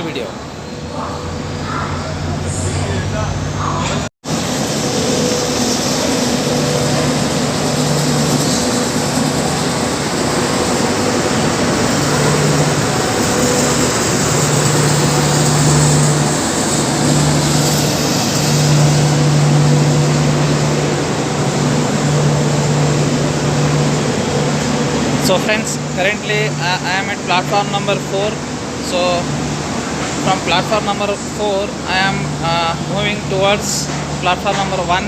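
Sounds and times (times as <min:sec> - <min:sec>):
trains at station platform: 0:00.0 - 0:35.0.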